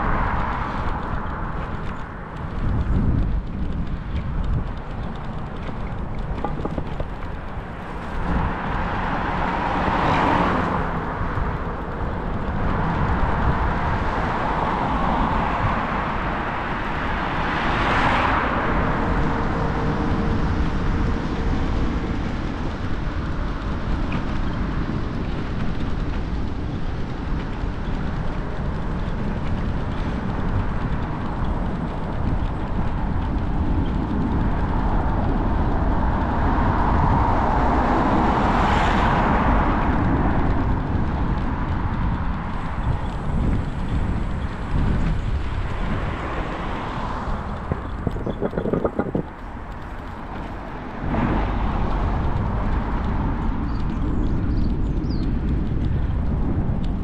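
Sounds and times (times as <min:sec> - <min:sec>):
cars passing: 0:00.0 - 0:57.0
wind rumble on microphone: 0:00.0 - 0:57.0.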